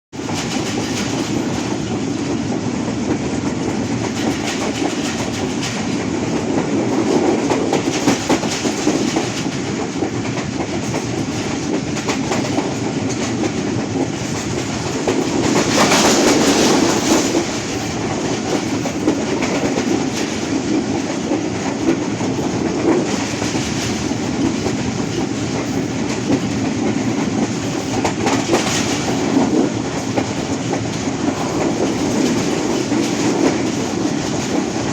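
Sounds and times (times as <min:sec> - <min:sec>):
train rumbling on rails: 0:00.1 - 0:34.9.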